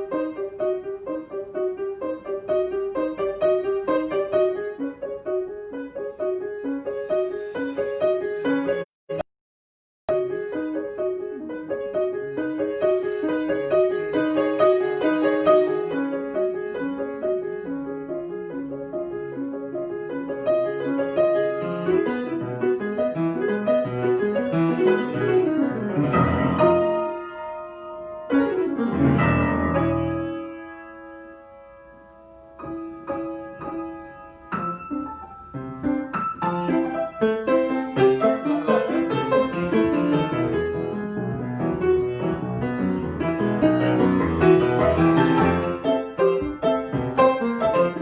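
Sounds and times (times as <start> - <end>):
solo piano: 0.0 - 9.2, 10.1 - 48.0.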